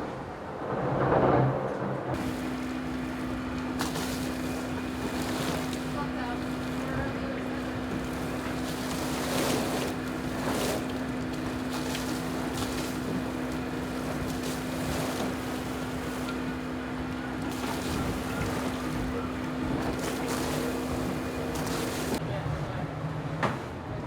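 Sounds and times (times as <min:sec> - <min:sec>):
steady hum: 0:00.0 - 0:23.3
wind and water rushing past hull: 0:00.0 - 0:23.9
gusts and spray: 0:02.2 - 0:22.2.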